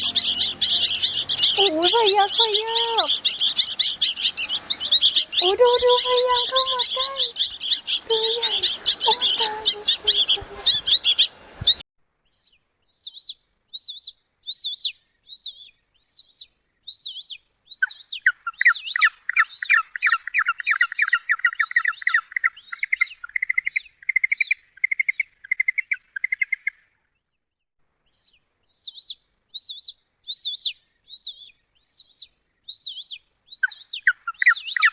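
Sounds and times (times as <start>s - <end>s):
small birds chirping: 0.0s - 27.4s, 28.0s - 34.9s.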